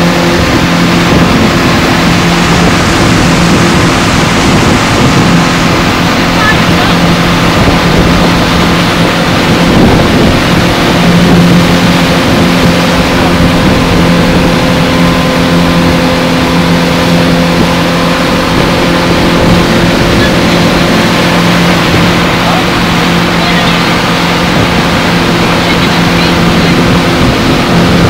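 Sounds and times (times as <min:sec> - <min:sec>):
churning wake water: 0:00.0 - 0:28.0
outboard motor drone: 0:00.0 - 0:28.0.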